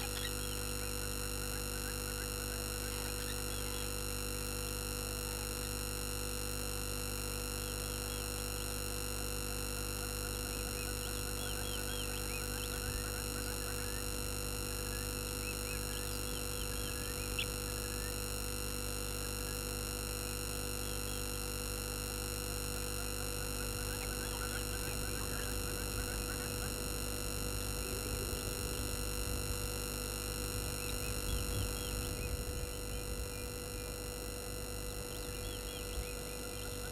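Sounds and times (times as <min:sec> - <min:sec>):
electrical hum and whine: 0:00.0 - 0:36.9.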